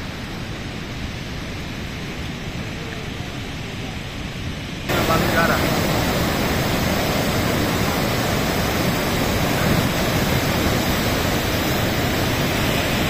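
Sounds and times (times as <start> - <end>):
floodwater rushing down river: 0.0 - 13.0.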